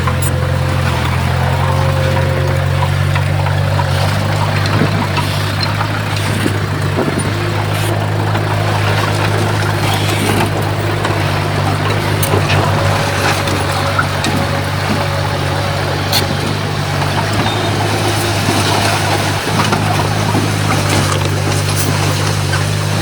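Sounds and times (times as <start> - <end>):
bulldozer diesel engine running: 0.0 - 23.0
machine clicks and clanks: 0.0 - 23.0.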